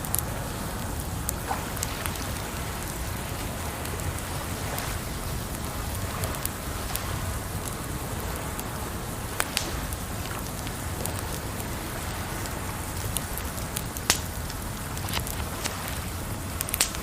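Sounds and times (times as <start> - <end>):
rushing water: 0.0 - 17.0
wood fire crackling: 0.0 - 17.0.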